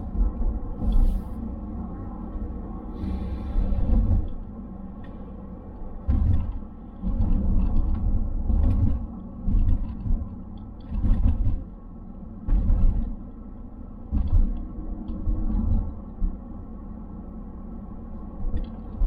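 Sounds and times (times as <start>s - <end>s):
car engine and road drone: 0.0s - 19.0s
low rumbling surges: 0.0s - 19.0s.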